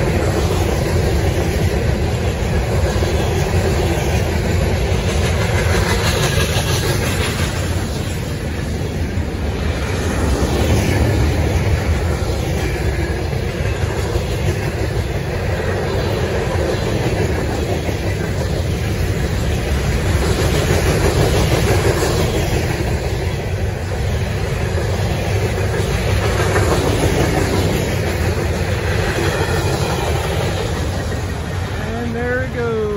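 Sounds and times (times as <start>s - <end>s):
freight wagon wheels on rails: 0.0s - 32.9s.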